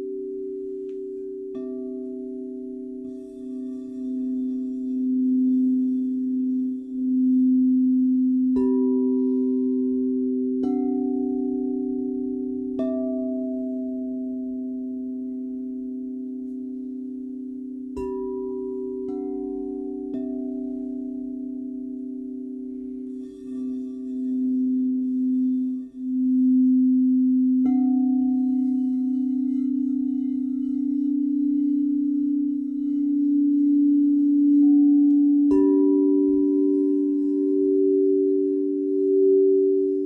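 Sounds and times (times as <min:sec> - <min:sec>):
singing bowls ringing: 0:00.0 - 0:40.0.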